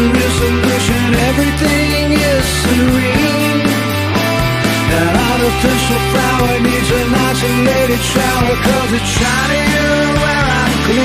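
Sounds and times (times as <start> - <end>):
deep bass: 0.0 - 11.0
rock band instrumental: 0.0 - 11.0.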